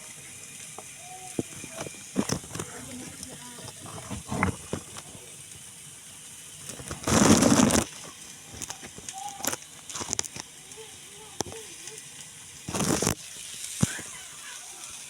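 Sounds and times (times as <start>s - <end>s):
pan sizzling: 0.0s - 15.0s.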